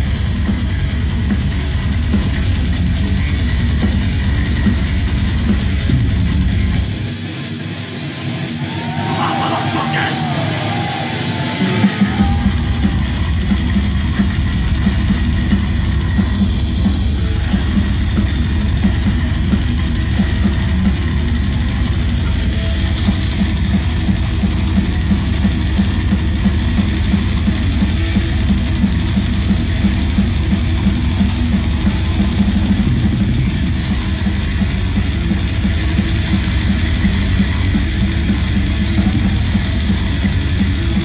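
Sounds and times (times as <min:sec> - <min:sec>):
bass guitar: 0:00.0 - 0:41.0
distorted electric guitars: 0:00.0 - 0:41.0
drum kit fast beat: 0:00.0 - 0:41.0.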